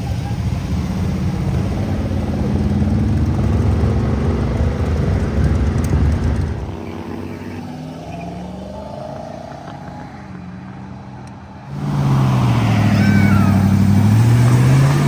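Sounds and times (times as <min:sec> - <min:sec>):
car accelerating hard: 0:00.0 - 0:10.9, 0:11.7 - 0:15.0
car engine rumble: 0:00.0 - 0:15.0.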